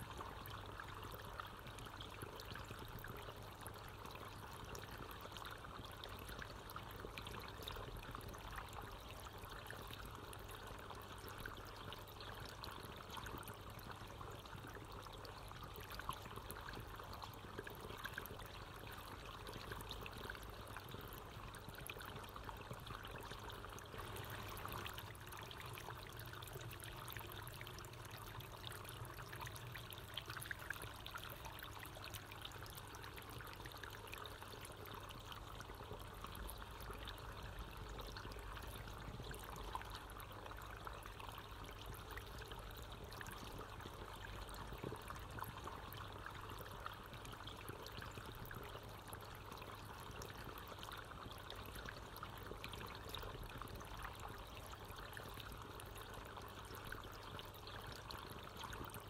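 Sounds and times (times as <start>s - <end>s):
water fountain trickling and splashing: 0.0s - 59.0s.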